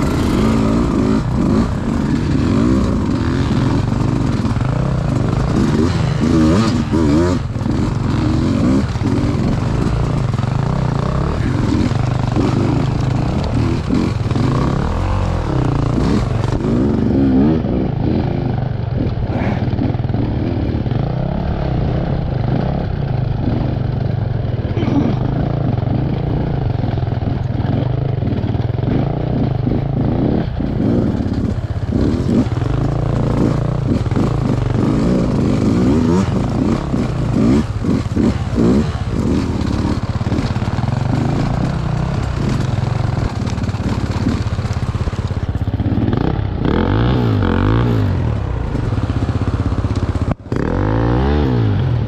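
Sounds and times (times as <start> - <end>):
motorcycle engine running: 0.0 - 52.0
motorcycle rattling: 0.0 - 52.0.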